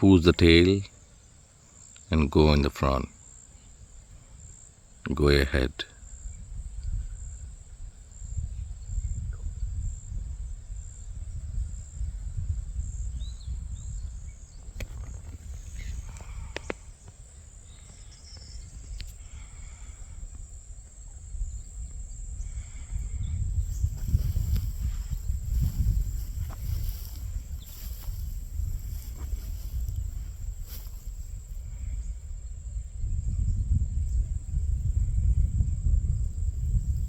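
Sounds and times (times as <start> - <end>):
high insect trill: 0.0 - 37.0
wind rumbling on microphone: 5.8 - 37.0.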